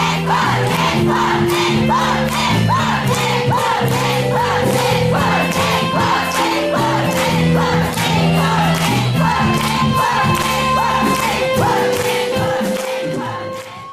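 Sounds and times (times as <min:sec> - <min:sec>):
live band music: 0:00.0 - 0:13.9.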